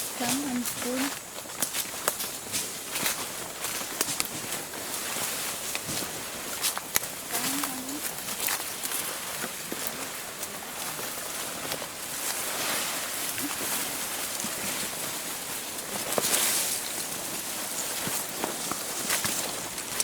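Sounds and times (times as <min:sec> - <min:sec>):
dry grass and leaves crackling: 0:00.0 - 0:20.0.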